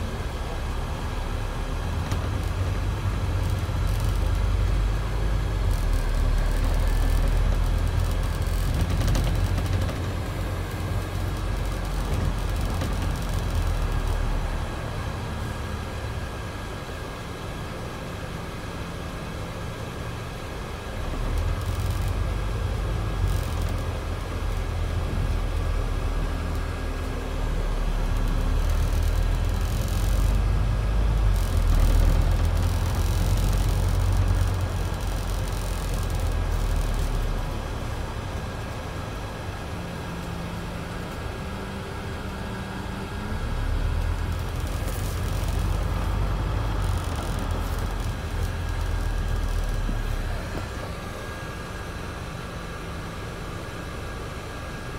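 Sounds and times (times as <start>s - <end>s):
bus engine running: 0.0s - 54.9s.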